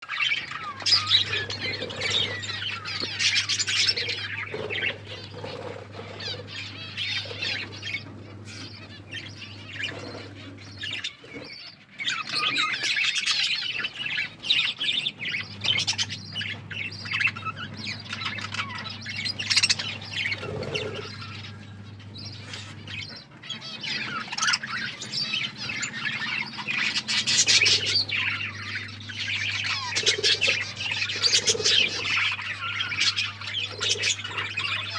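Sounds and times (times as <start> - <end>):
budgerigars chattering and chirping: 0.0 - 34.9
steady low hum: 0.1 - 34.9.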